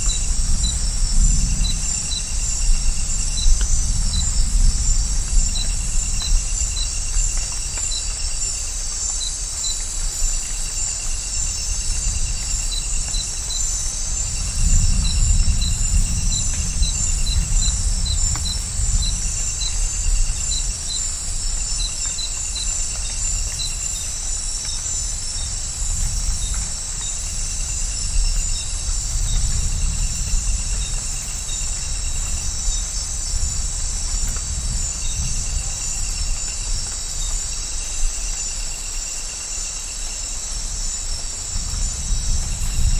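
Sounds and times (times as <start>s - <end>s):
insect chorus: 0.0s - 42.9s.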